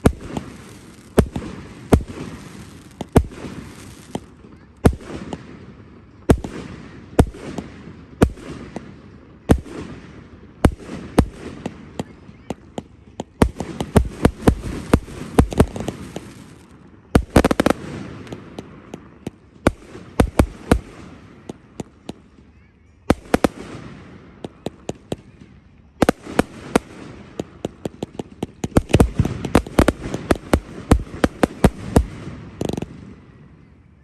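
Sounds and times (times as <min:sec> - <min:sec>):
rapid firework cracks: 0:00.0 - 0:05.7, 0:06.3 - 0:22.3, 0:23.1 - 0:25.4, 0:26.0 - 0:33.2
fireworks bursting with bangs: 0:00.0 - 0:34.0.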